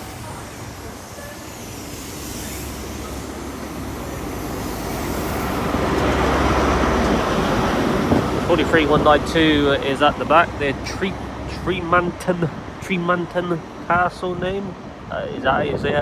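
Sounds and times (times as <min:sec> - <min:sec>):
low engine hum: 0:00.0 - 0:16.0
train wheel noise: 0:00.0 - 0:16.0.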